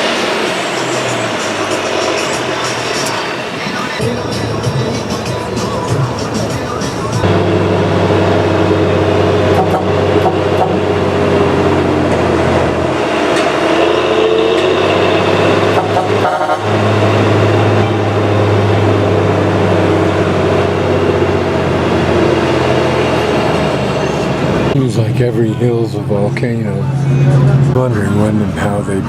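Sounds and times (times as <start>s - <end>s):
bus engine running: 0.0s - 29.0s
road noise: 0.0s - 29.0s.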